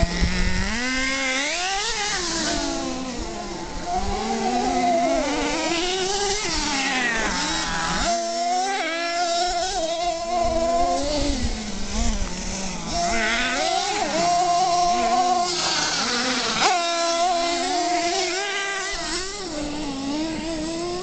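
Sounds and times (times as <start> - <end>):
small engine buzzing and revving: 0.0 - 21.0.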